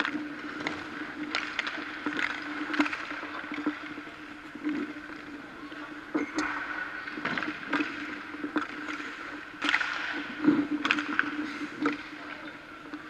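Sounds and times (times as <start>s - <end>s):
skates scraping ice: 0.0s - 13.0s
sticks and pucks clacking: 0.0s - 13.0s.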